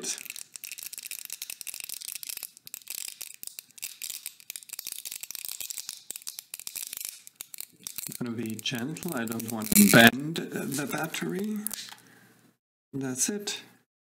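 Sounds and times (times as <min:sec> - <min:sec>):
battery adhesive crackling and tearing: 0:00.0 - 0:12.0.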